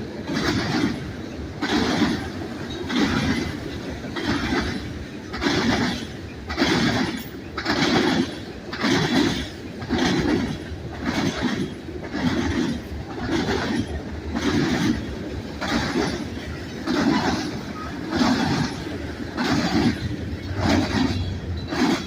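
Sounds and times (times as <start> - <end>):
train wheels clattering over switch: 0.3 - 22.0.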